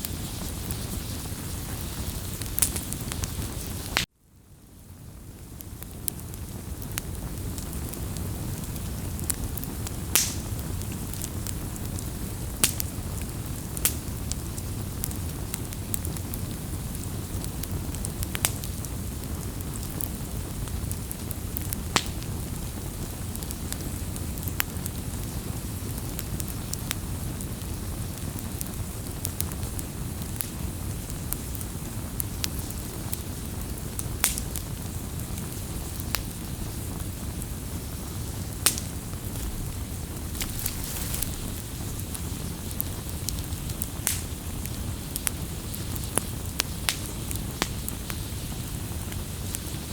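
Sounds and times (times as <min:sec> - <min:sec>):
campfire rumbling: 0:00.0 - 0:49.9
fire crackles and pops: 0:00.0 - 0:49.9.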